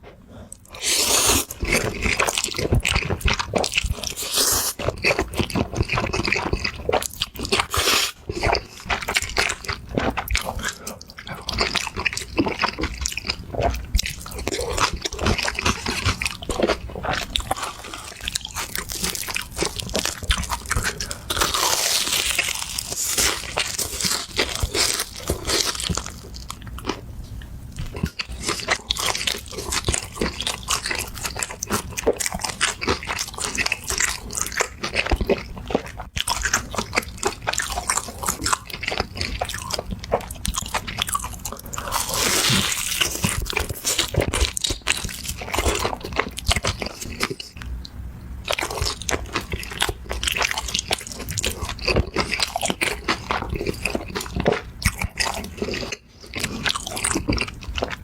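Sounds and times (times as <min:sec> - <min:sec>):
crunchy bites and chewing: 0:00.6 - 0:27.1, 0:27.8 - 0:58.0.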